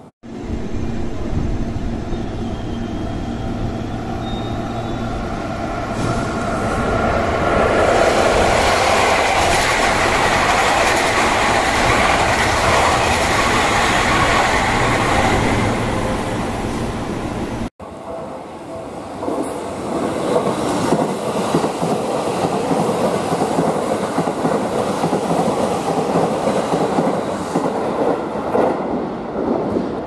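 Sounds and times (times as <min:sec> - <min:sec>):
train wheels rumbling on rails: 0:00.3 - 0:17.7, 0:19.1 - 0:30.0
electric train passing: 0:00.3 - 0:30.0.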